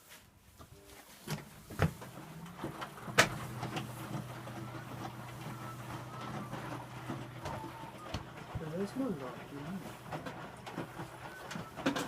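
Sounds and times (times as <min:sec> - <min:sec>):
washing machine motor humming: 0:01.2 - 0:12.0.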